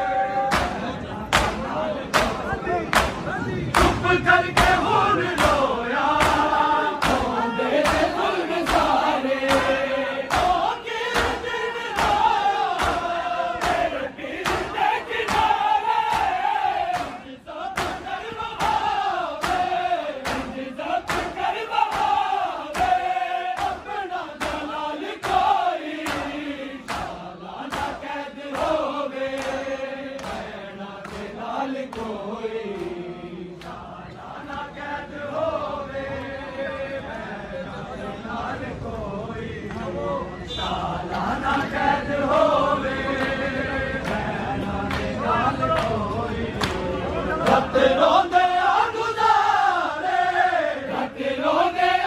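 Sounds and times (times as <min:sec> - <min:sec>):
men chanting in unison: 0:00.0 - 0:52.0.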